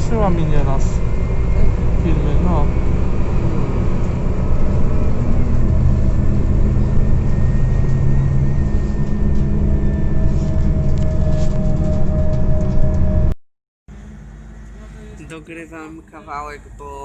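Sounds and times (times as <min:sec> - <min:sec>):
thin whine: 0:00.0 - 0:15.2
bus engine running: 0:00.0 - 0:17.0.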